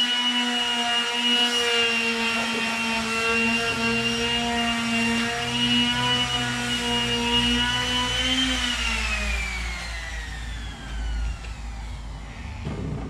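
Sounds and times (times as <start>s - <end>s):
electric sander running: 0.0s - 13.0s.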